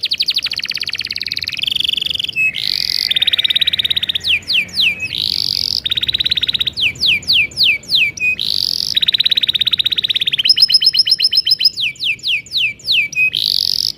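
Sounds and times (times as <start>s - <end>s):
canary singing: 0.0s - 13.9s.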